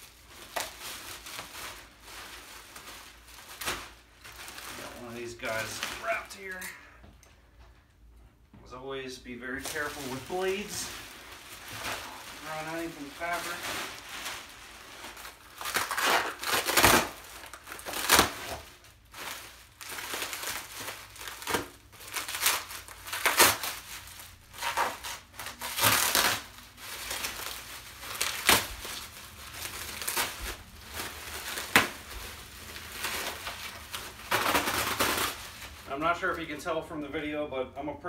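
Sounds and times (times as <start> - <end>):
sharp plastic crackles: 0.0 - 7.3, 9.5 - 36.6
plastic crinkling and rustling: 0.0 - 7.9, 8.6 - 37.3.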